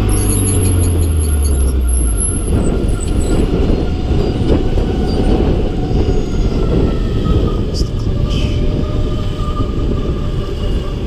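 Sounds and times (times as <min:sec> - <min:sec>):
tyre and road noise: 0:00.0 - 0:11.0
wind buffeting microphone: 0:00.0 - 0:11.0.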